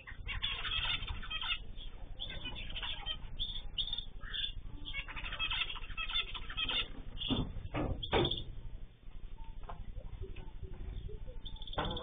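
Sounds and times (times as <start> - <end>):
small birds chirping and twittering: 0.0 - 12.0.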